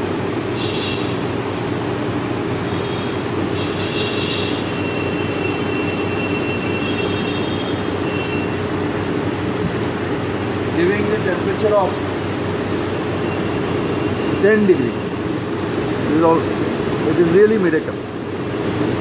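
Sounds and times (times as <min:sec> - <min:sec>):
blower fan running: 0:00.0 - 0:19.0.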